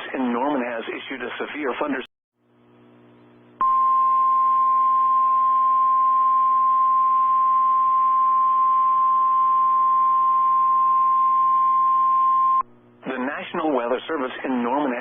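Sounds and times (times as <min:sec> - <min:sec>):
low hum with static: 0:00.1 - 0:15.0.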